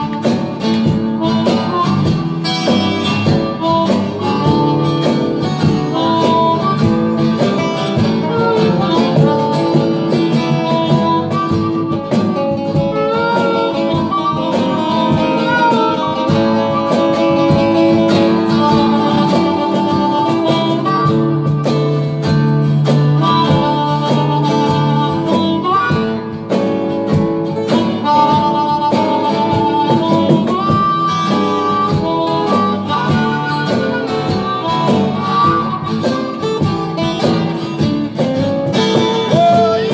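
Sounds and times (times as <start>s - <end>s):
guitar accompaniment: 0.0s - 39.9s
harmonica bent notes: 0.0s - 39.9s.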